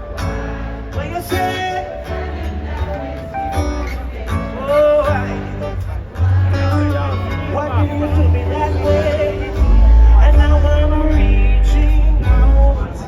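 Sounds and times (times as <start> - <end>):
live reggae band playing: 0.0 - 13.0
person singing: 0.0 - 13.0.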